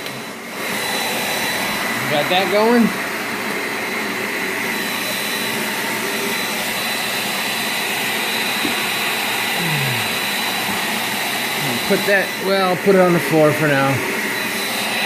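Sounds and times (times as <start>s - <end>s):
hair dryer air rush: 0.0s - 15.0s.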